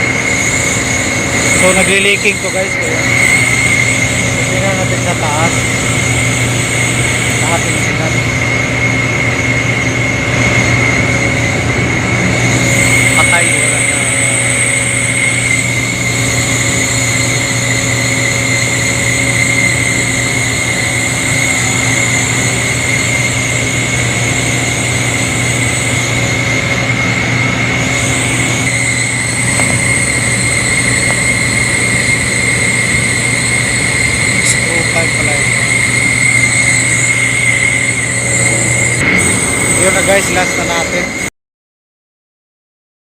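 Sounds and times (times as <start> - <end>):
air compressor machine hum: 0.0 - 41.3
high-pitched whine: 0.0 - 41.3.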